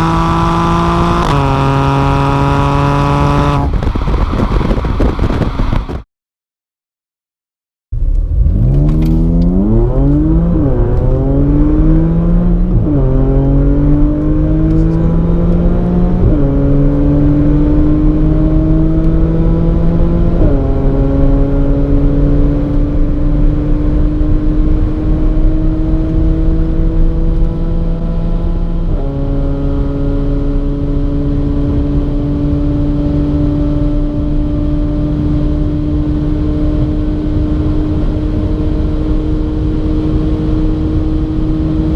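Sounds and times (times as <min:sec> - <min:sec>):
car engine accelerating: 0:00.0 - 0:06.0, 0:08.0 - 0:41.9.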